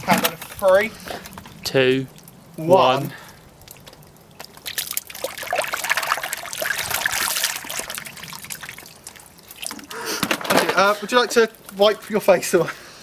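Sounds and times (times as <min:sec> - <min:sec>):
thick gunge pouring and splattering: 0:00.0 - 0:12.3.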